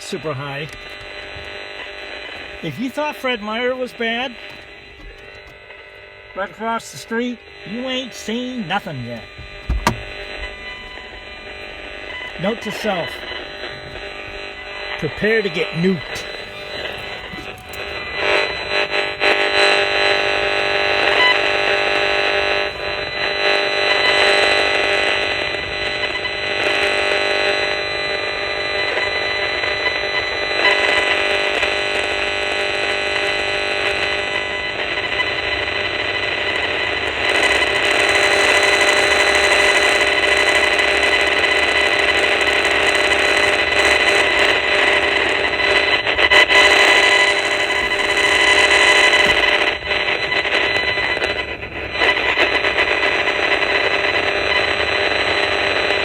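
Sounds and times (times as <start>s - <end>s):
electronic buzz with held tones: 0.0s - 56.0s.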